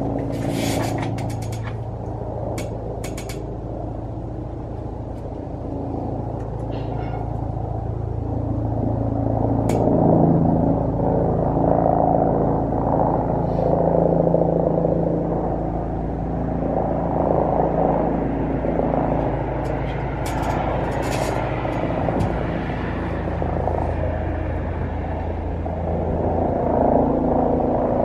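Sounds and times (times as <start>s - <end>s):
helicopter rotor and engine: 0.0s - 28.0s.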